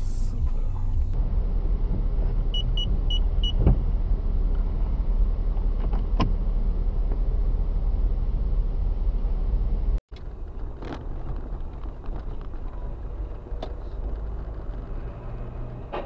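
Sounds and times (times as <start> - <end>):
traffic rumble and idling engines: 0.0 - 16.0.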